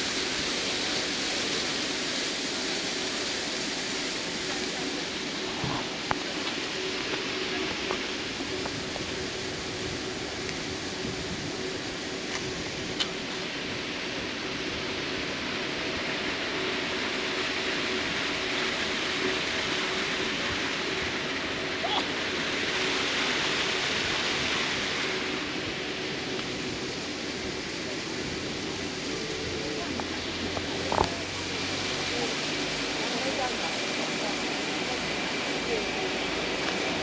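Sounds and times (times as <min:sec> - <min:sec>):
faint steady hum: 0:00.0 - 0:37.0
waterfall rushing: 0:00.0 - 0:37.0.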